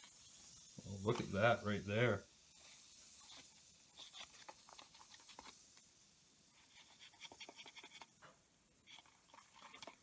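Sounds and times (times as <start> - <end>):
fizzing and crackling solution: 0.0 - 8.2, 8.8 - 10.0.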